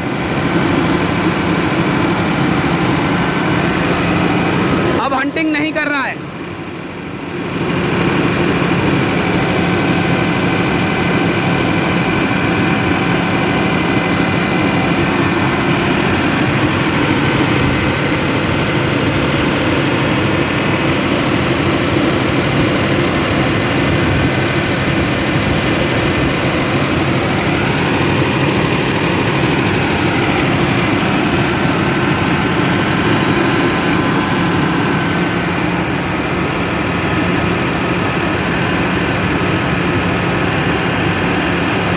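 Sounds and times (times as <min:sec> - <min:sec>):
engine running under load: 0:00.0 - 0:41.9.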